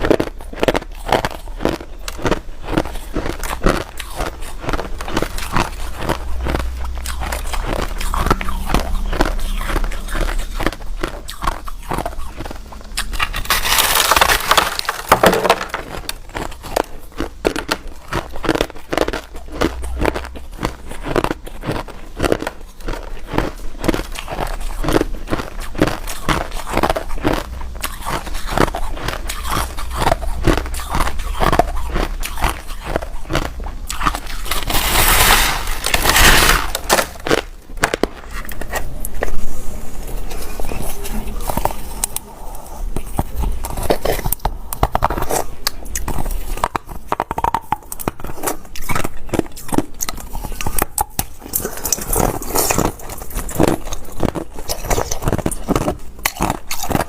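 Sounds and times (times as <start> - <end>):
chewing hard ice crunches: 0.0 - 39.4, 40.6 - 57.0.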